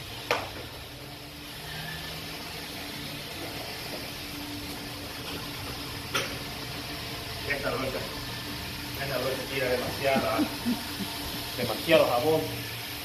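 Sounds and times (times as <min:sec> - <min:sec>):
pump hum: 0:00.0 - 0:13.0
running water: 0:00.0 - 0:13.0.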